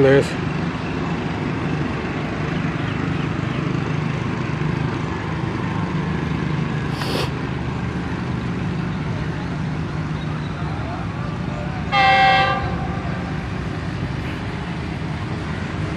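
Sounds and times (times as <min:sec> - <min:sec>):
locomotive engine drone: 0:00.0 - 0:15.9.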